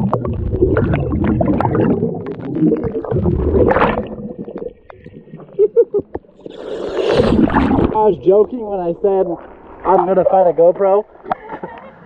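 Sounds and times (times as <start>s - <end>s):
water splash: 0.0s - 10.5s
underwater bubbles gurgling: 0.0s - 11.3s.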